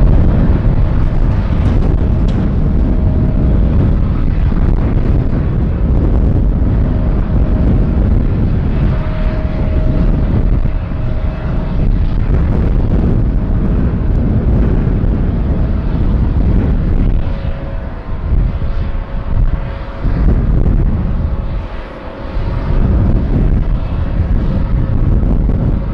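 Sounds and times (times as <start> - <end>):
jet engine rumble with whine: 0.0 - 25.9.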